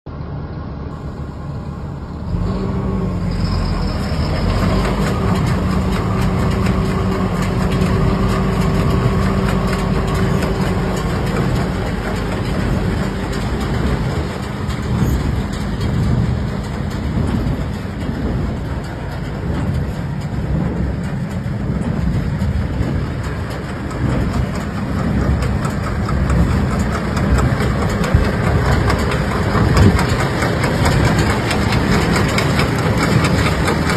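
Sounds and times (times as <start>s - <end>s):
baler machinery running: 0.1s - 33.9s
steady machine whine: 0.1s - 33.9s
tractor engine running: 0.1s - 33.9s.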